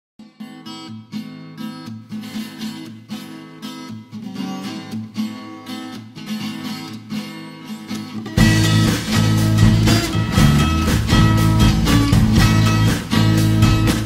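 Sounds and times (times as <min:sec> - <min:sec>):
acoustic guitar strummed: 0:00.2 - 0:14.0.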